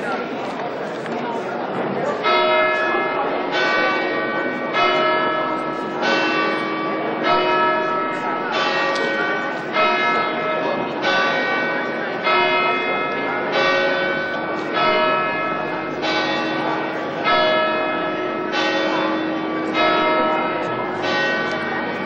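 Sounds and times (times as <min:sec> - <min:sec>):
church bells ringing: 0:02.1 - 0:22.0.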